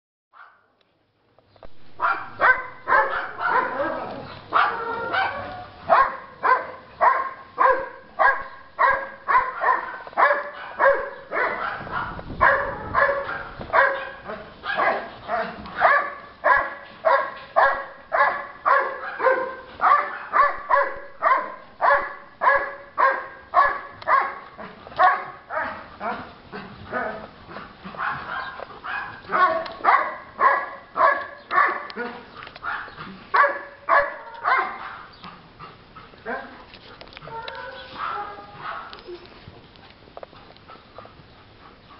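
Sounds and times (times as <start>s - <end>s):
dog barking: 0.3s - 0.6s, 2.0s - 26.3s, 27.9s - 35.2s, 36.2s - 36.6s, 37.3s - 39.0s.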